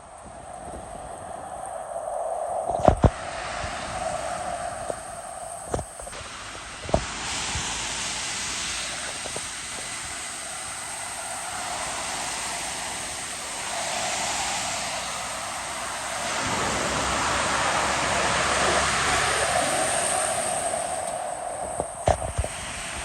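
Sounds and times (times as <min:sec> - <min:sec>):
road traffic passing: 0:03.2 - 0:23.0.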